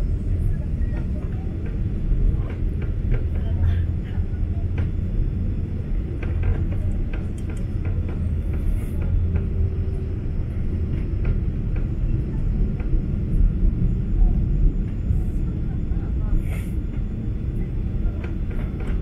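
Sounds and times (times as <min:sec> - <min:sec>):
airplane engines and airflow rumble: 0:00.0 - 0:19.0.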